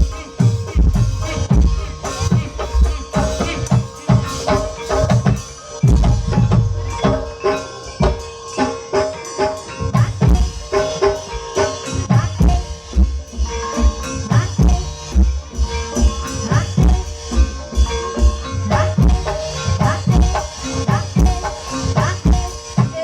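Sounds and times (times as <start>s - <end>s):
rapid hand-drum strokes: 0.0s - 23.0s
steady ringing tone: 0.0s - 23.0s
struck metal keyed instruments: 0.0s - 23.0s.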